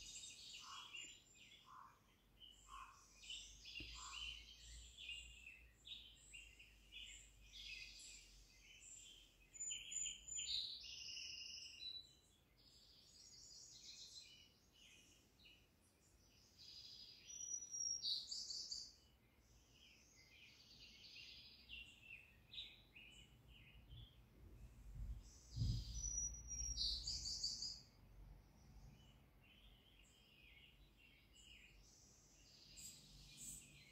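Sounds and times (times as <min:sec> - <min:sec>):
birds chirping and twittering: 0:00.0 - 0:33.9.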